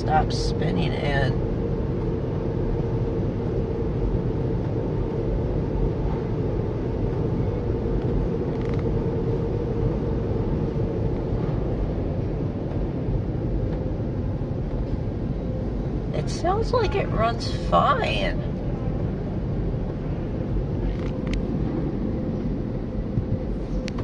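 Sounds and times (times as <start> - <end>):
car wash machinery rumble: 0.0 - 24.0.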